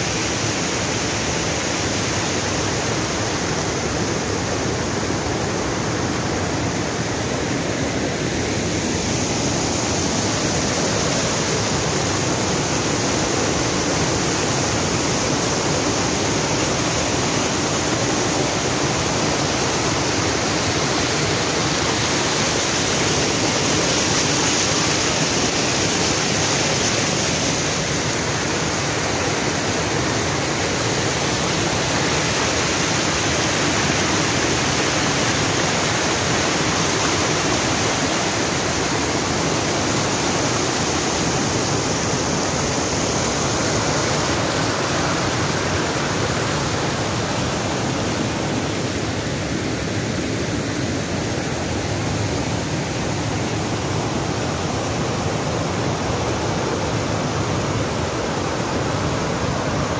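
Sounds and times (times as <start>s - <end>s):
small waterfall rushing over rock: 0.0s - 59.9s.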